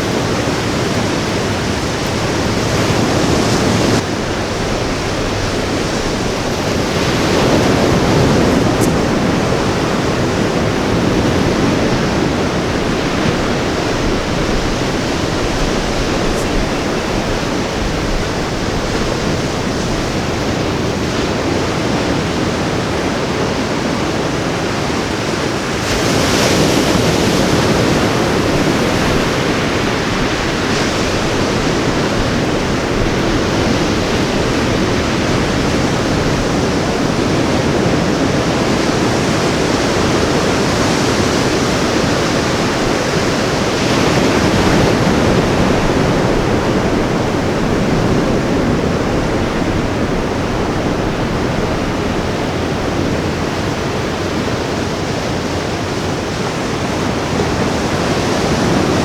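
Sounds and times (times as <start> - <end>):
ocean surf washing on beach: 0.0 - 59.0
wave breaking: 0.0 - 59.0.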